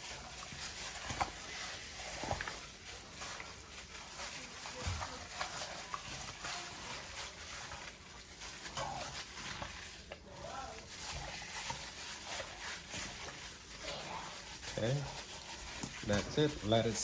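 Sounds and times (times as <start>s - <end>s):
hands squishing meat in marinade: 0.0s - 17.0s.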